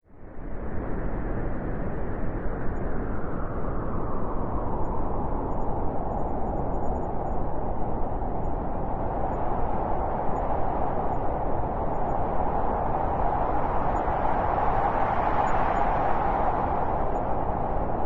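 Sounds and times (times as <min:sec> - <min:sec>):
blizzard wind roaring: 0:00.1 - 0:18.0.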